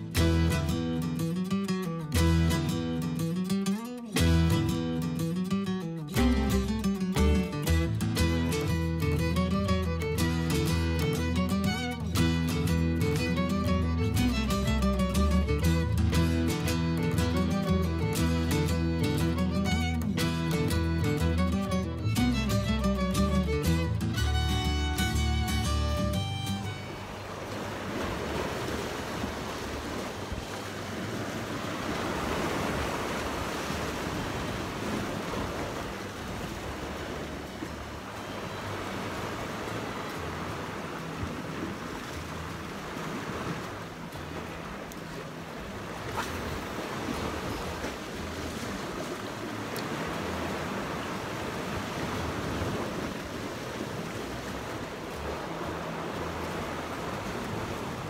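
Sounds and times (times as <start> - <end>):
sea waves washing on shore: 0.0 - 58.0.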